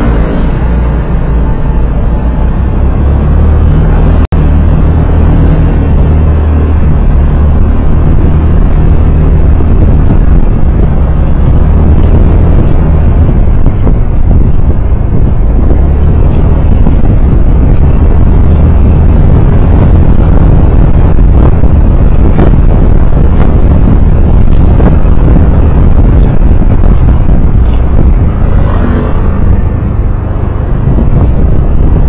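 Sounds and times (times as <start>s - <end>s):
tyre road noise: 0.0s - 32.0s
vehicle engine rumble: 0.0s - 32.0s
wind noise: 0.0s - 32.0s.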